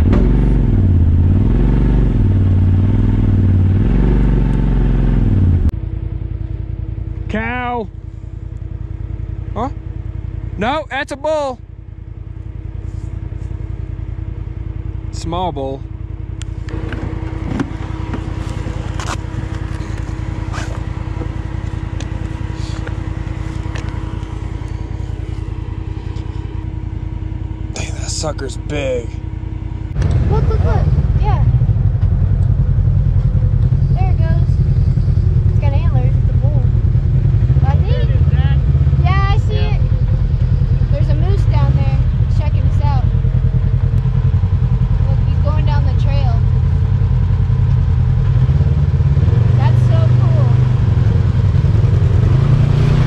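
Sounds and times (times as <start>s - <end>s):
off-road vehicle engine revving: 0.0s - 5.7s, 12.7s - 53.0s.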